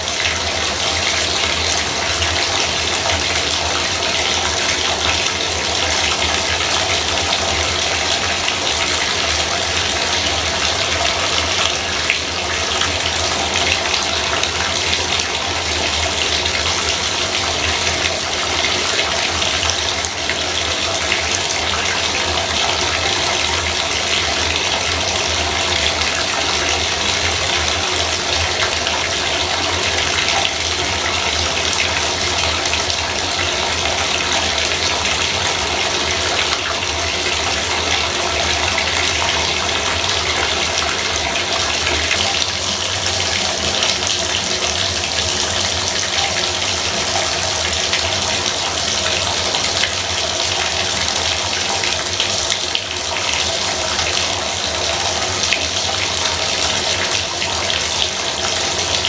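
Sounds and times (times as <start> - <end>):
bathtub faucet running: 0.0 - 59.0.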